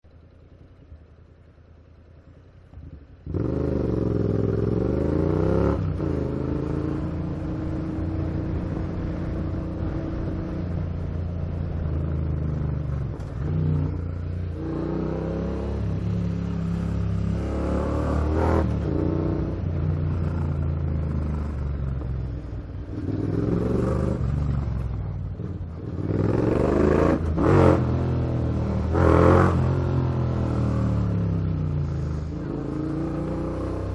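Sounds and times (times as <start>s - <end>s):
motorcycle engine revving: 2.3s - 33.9s.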